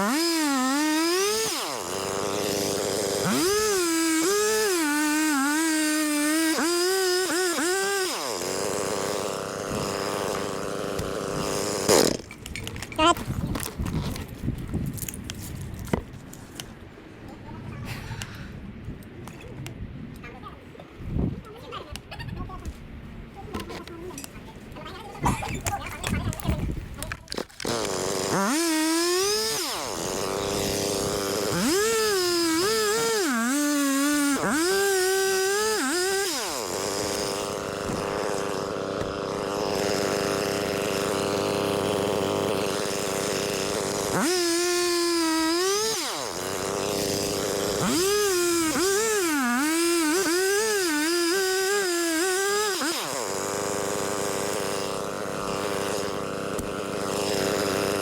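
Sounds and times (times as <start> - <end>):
chainsaw cutting wood: 0.0 - 14.3, 25.3 - 58.0.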